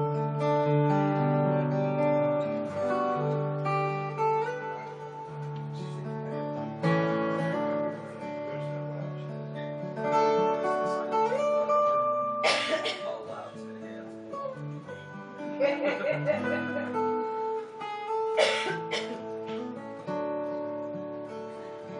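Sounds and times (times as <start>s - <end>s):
acoustic guitar chords: 0.0s - 21.9s.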